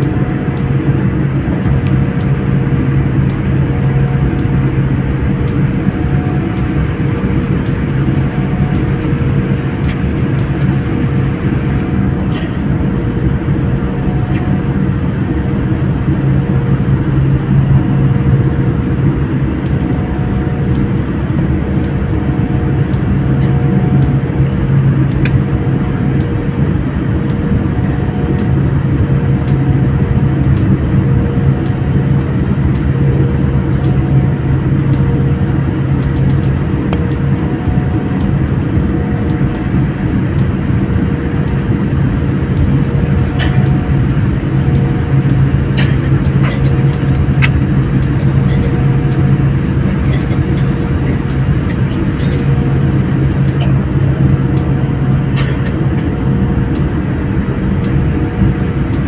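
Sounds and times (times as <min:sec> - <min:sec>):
faint tone: 0:00.0 - 0:56.6
jet engines humming: 0:00.0 - 0:59.0.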